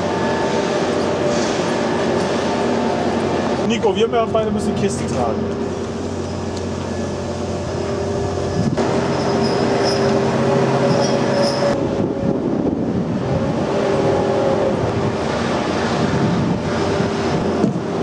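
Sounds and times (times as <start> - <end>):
heavy machinery drone: 0.0 - 18.0.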